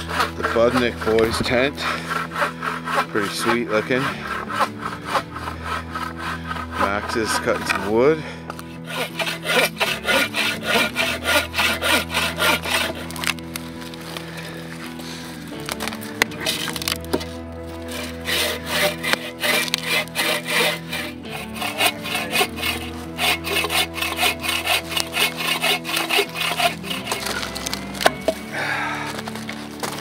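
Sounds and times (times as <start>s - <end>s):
background music: 0.0s - 30.0s
bow saw cutting logs: 0.0s - 30.0s.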